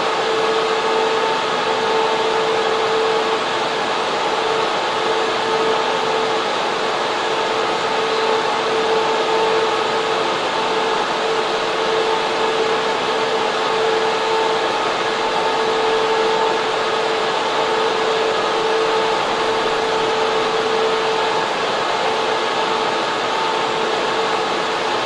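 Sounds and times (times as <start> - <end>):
constant whining tone: 0.0 - 25.0
server fans rushing air: 0.0 - 25.0.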